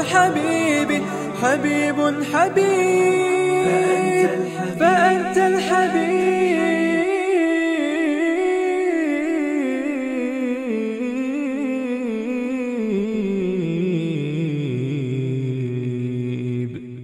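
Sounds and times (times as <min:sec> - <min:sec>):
wordless vocal humming: 0:00.0 - 0:17.0.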